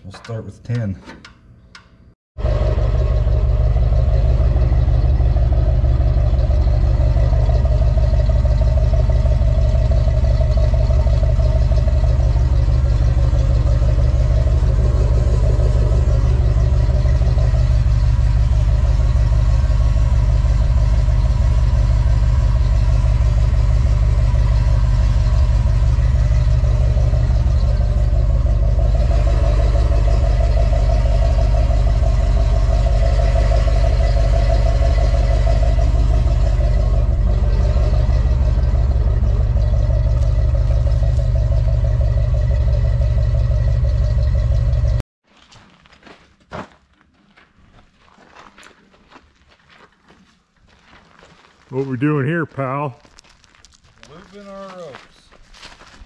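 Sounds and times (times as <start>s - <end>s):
truck engine running: 2.4s - 45.0s, 51.7s - 56.0s.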